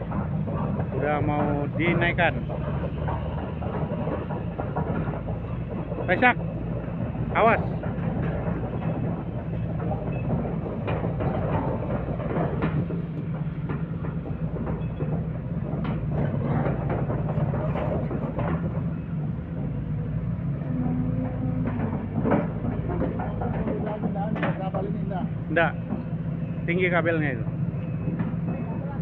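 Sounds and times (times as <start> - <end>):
excavator diesel engine running: 0.0 - 29.0
steel tracks clanking: 0.0 - 29.0.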